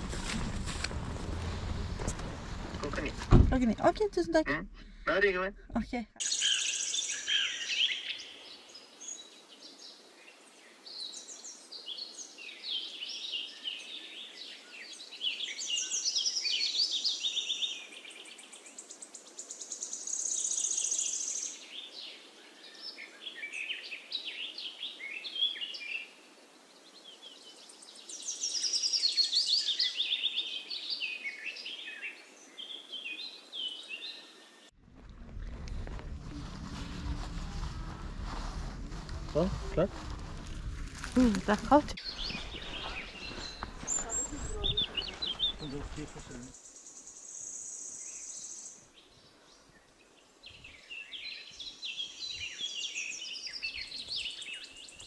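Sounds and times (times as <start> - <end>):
songbirds chirping and trilling: 6.2 - 34.8, 37.2 - 55.0.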